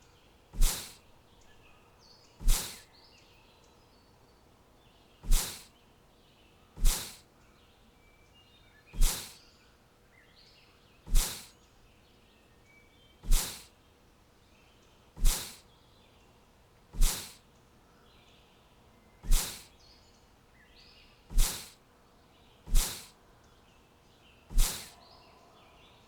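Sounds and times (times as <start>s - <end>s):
faint bird chirps: 0.0s - 13.8s, 17.0s - 26.0s.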